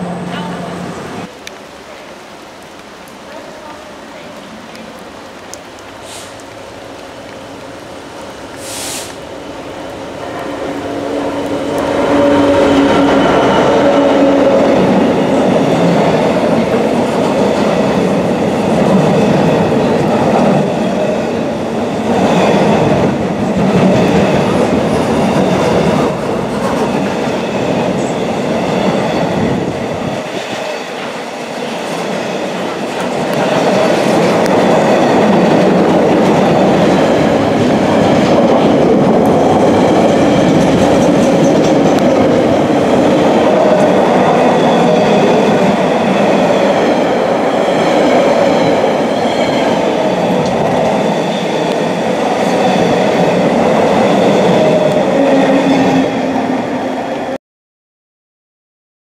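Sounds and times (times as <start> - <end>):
freight train wagons rolling past: 3.3 - 57.4.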